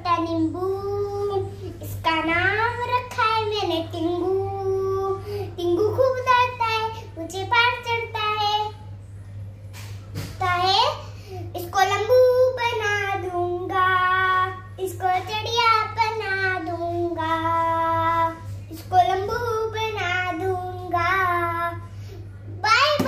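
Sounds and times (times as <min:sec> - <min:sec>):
girl singing: 0:00.0 - 0:08.8, 0:10.4 - 0:22.0, 0:22.6 - 0:23.0
faint low hum: 0:00.0 - 0:23.0.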